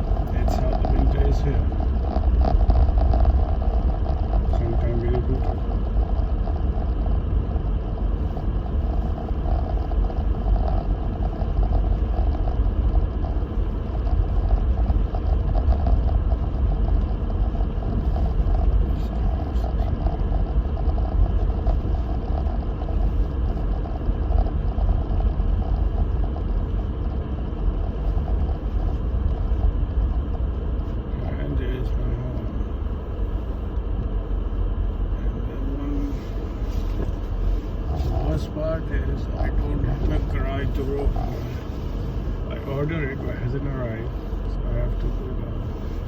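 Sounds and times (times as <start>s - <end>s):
car engine rumbling: 0.0s - 46.0s
tyres driving through snow: 0.0s - 46.0s.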